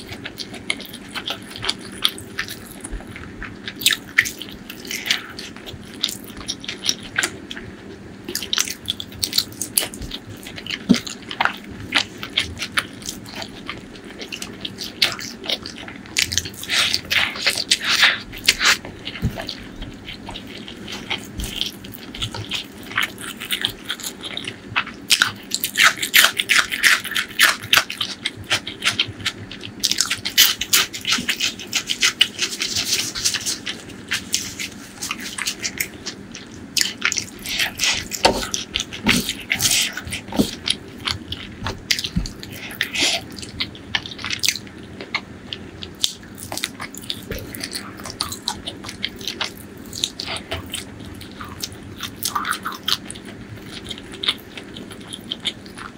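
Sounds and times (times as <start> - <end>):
biting and chewing food: 0.0 - 55.9.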